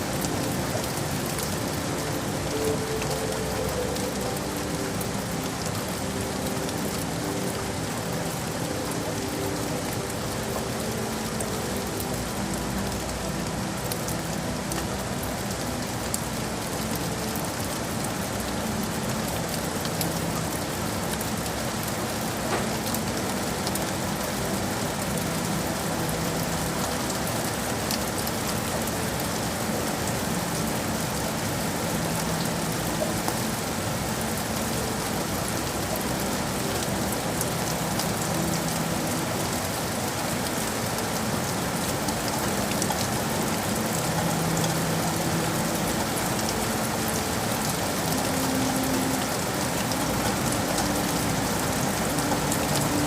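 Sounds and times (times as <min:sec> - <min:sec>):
rain on hard surfaces: 0:00.0 - 0:53.0.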